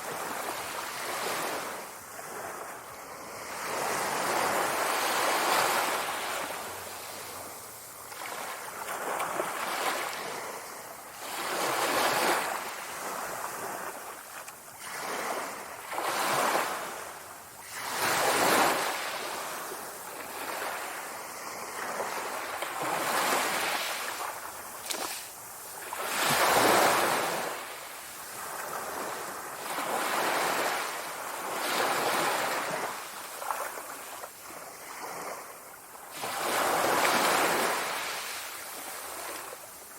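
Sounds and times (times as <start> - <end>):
sea waves breaking: 0.0 - 35.5.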